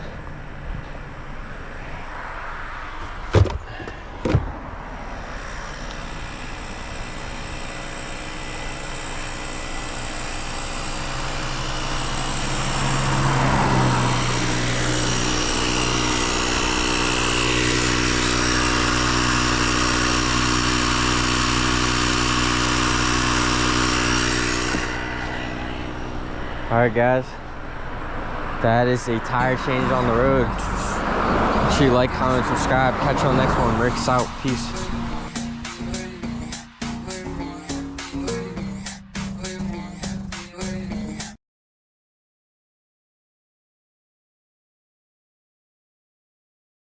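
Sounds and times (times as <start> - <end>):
road noise: 0.0 - 38.1
vehicle engine running: 0.0 - 41.3.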